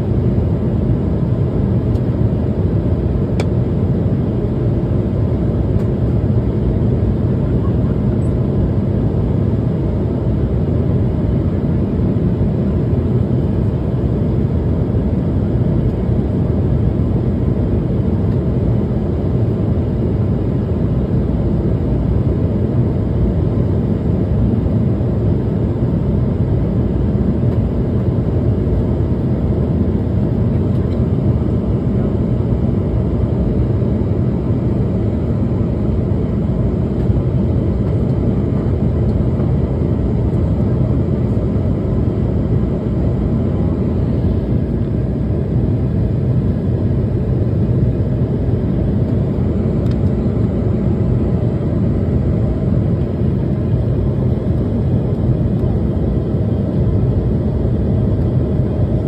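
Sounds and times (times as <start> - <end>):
airflow over fuselage: 0.0 - 59.0
airliner cabin engine rumble: 0.0 - 59.0.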